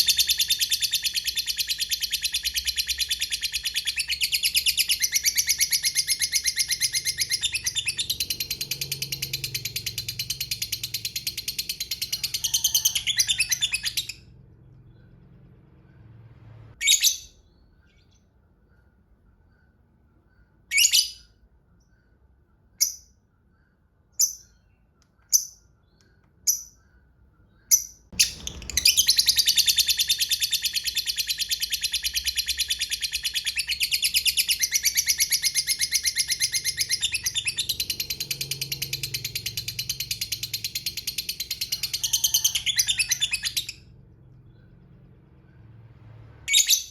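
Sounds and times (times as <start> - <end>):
bird sharp chirps: 0.0 - 45.8.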